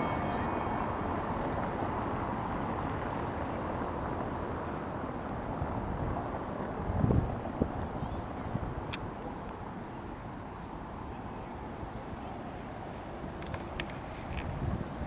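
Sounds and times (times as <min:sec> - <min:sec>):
low city background rumble: 0:00.0 - 0:15.0.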